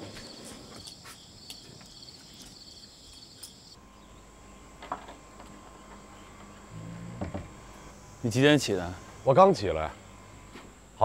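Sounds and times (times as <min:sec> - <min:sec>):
crickets chirping: 0:00.0 - 0:11.0
faint steady hum: 0:01.9 - 0:11.0.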